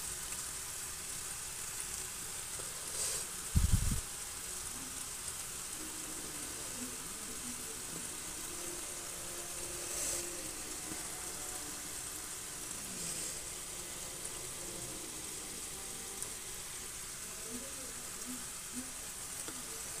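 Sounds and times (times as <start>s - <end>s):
steady background hiss: 0.0s - 20.0s
faint voices: 2.4s - 20.0s.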